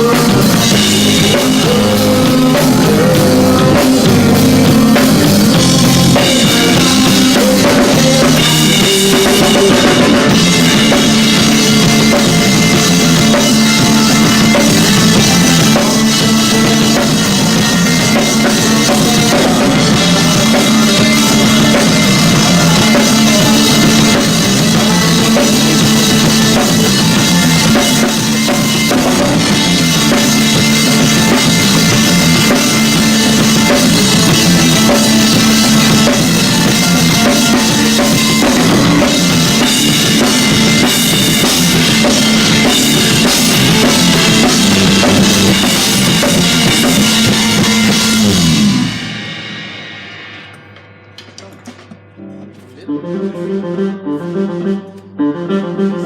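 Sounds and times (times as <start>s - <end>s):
drum kit: 0.0s - 52.8s
rock band playing live: 0.0s - 53.5s.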